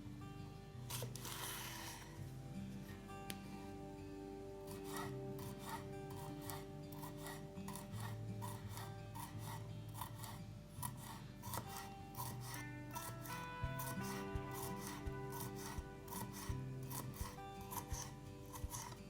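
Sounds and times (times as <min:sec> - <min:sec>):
soft background music: 0:00.0 - 0:19.0
food rasping on a grater: 0:00.9 - 0:02.2, 0:04.7 - 0:19.0.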